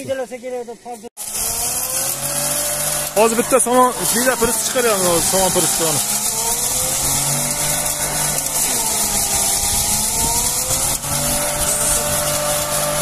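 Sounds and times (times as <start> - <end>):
chopped straw hissing from chute: 0.8 - 13.0
straw crusher motor hum: 1.2 - 13.0
wavering machine whine: 1.2 - 13.0.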